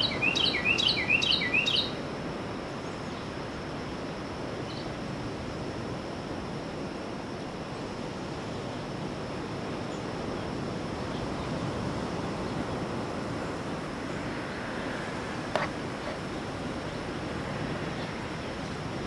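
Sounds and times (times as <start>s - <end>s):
wind: 0.0s - 19.0s
ocean surf washing on beach: 1.9s - 19.0s.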